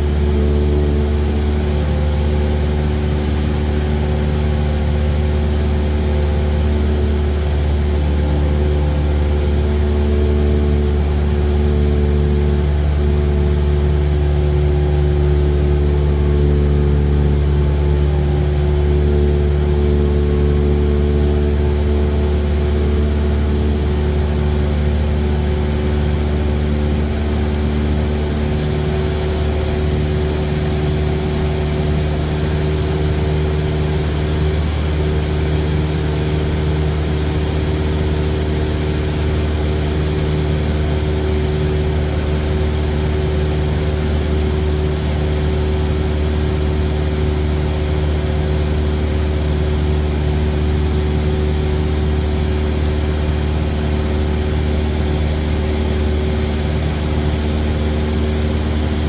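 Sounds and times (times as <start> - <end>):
propeller airplane engine droning: 0.0 - 59.0.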